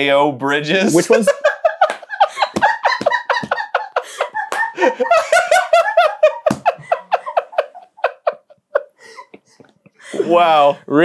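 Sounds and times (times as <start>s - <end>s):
men laughing hard: 1.0s - 10.7s.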